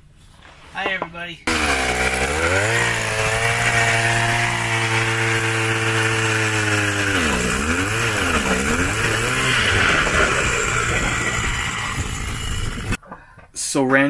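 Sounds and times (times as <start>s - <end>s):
power ice auger drilling: 1.5s - 13.0s.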